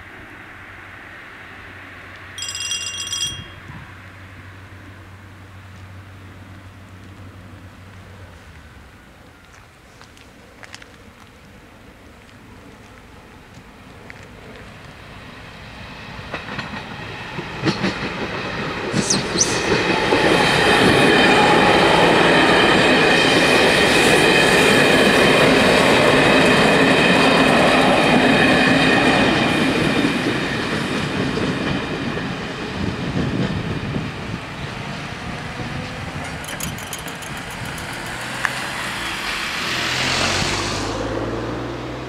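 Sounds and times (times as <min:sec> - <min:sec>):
passenger train passing: 0:00.0 - 0:09.5, 0:10.4 - 0:42.0.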